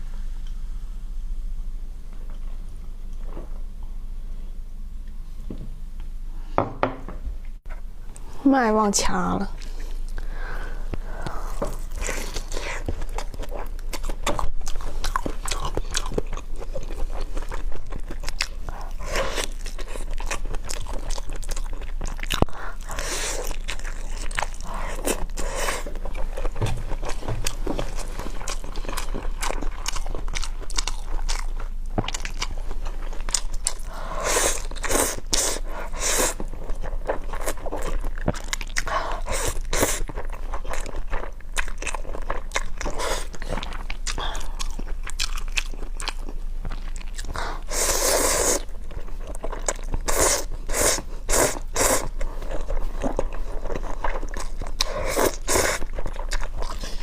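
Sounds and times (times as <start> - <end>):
person chewing and smacking: 11.0 - 57.0.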